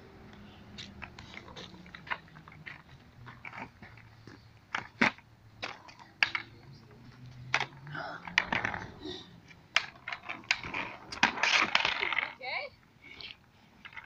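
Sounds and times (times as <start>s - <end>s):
skateboards clacking on concrete: 0.3s - 14.0s.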